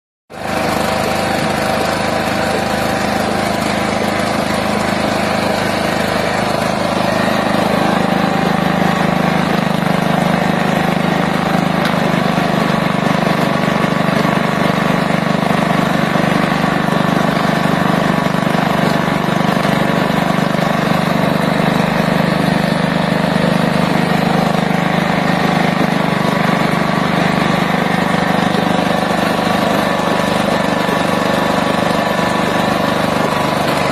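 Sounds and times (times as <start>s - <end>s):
small engine running: 0.3s - 33.9s.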